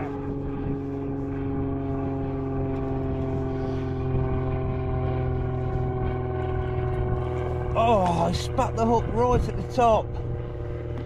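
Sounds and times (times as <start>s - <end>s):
engine droning hum: 0.0s - 11.0s.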